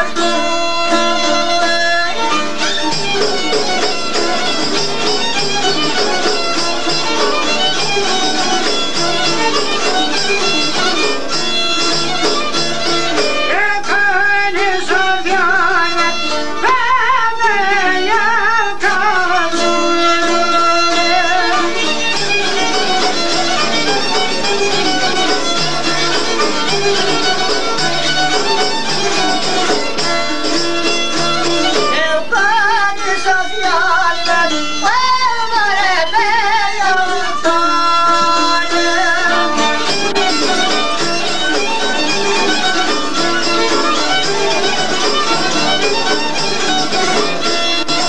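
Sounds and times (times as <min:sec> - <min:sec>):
ornamented lead melody: 0:00.0 - 0:48.0
string accompaniment: 0:00.0 - 0:48.0.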